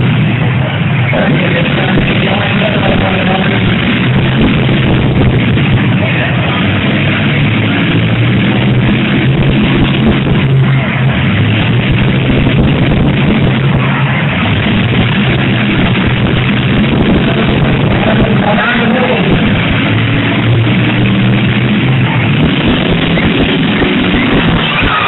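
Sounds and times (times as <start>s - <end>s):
car engines running: 0.0s - 25.0s
rock music over loudspeakers: 0.0s - 25.0s.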